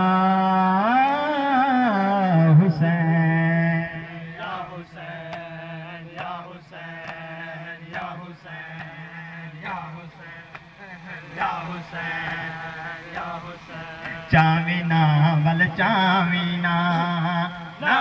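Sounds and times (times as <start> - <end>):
man chanting into microphone: 0.0 - 6.9, 7.5 - 18.0.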